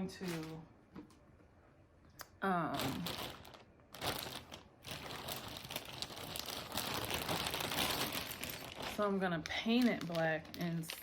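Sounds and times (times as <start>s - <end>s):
plastic packaging crinkling: 0.1s - 0.6s, 2.7s - 11.0s.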